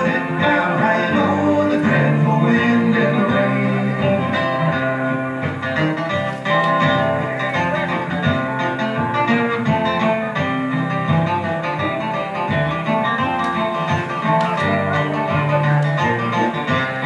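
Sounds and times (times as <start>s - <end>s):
acoustic guitar picked: 0.0s - 17.0s
live band playing: 0.0s - 17.0s.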